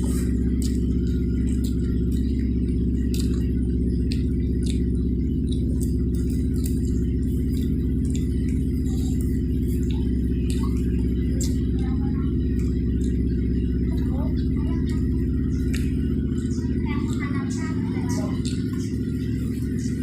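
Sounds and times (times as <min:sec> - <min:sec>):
eating clicks and smacks: 0:00.0 - 0:20.0
low machine hum: 0:00.0 - 0:20.0.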